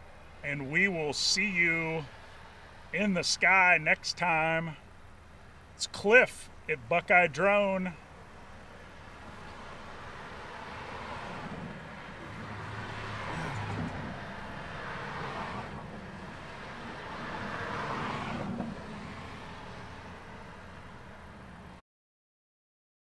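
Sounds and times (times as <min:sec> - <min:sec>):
cars passing: 0:00.0 - 0:21.8.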